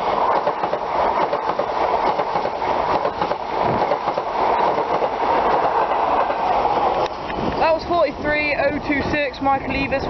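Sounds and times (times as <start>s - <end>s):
wheels clicking over rail joints: 0.0s - 9.7s
train coaches rumbling past: 0.0s - 10.0s.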